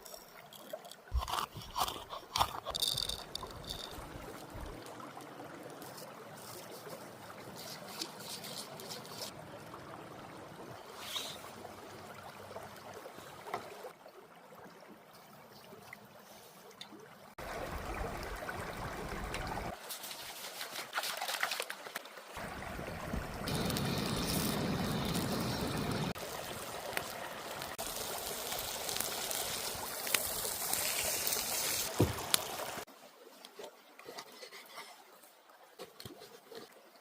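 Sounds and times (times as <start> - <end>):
stream trickling: 0.0 - 37.0.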